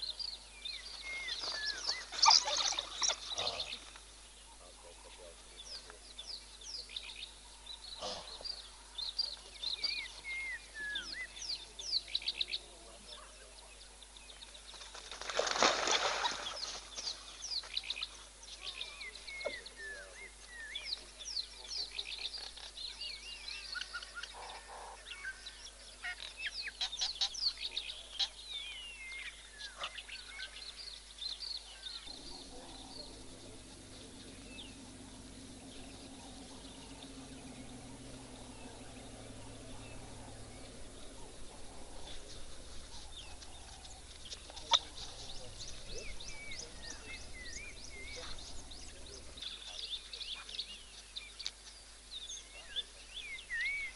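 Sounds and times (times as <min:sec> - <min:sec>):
high chirping and twittering calls: 0:00.0 - 0:53.9.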